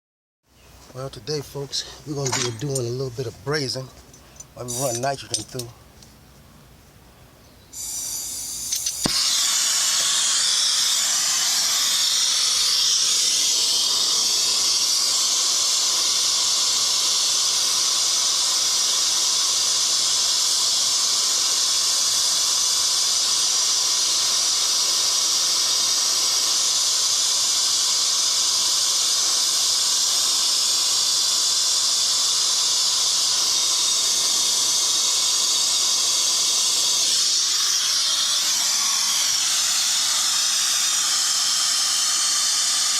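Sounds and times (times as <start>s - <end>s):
torch flame hissing: 7.7s - 42.9s.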